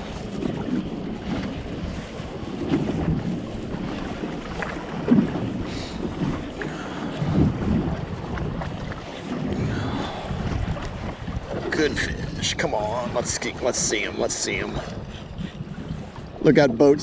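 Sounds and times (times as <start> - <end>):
waves lapping against hull: 0.0 - 17.0
wind buffeting microphone: 0.0 - 17.0.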